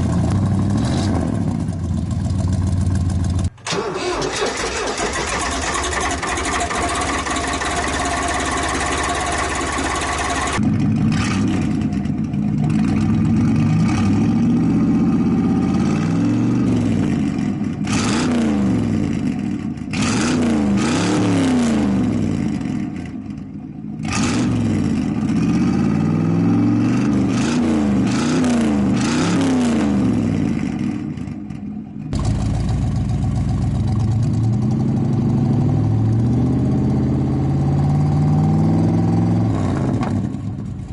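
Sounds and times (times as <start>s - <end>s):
engine revving through muffler: 0.0s - 3.5s, 6.2s - 12.0s, 12.6s - 22.9s, 24.0s - 31.1s, 32.2s - 40.9s.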